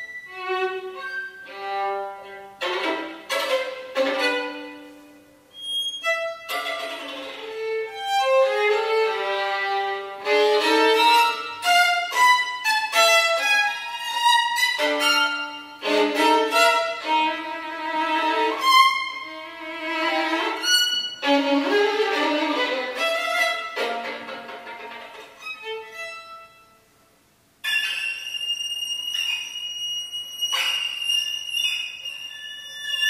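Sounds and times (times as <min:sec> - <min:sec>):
solo violin playing: 0:00.0 - 0:27.0.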